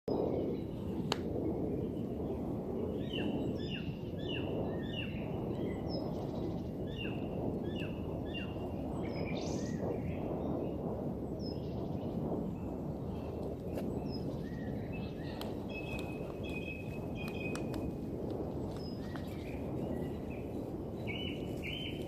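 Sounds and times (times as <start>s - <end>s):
low rumble: 0.1s - 22.0s
birds chirping: 0.3s - 18.0s, 18.6s - 22.0s.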